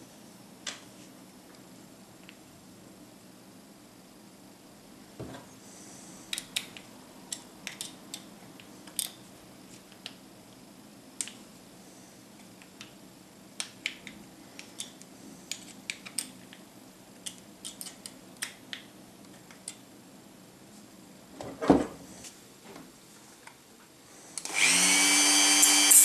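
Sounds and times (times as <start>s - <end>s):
faint steady low hum: 0.0s - 25.9s.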